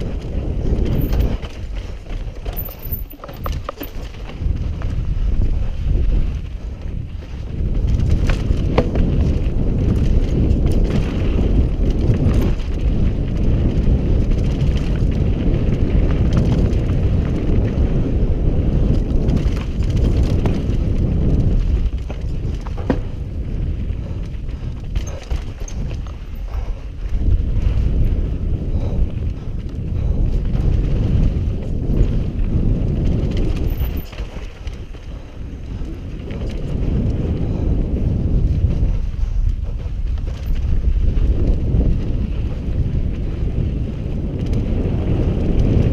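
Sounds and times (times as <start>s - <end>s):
bike rattling over rocks: 0.0s - 45.9s
bike tyres rumbling on dirt: 0.0s - 45.9s.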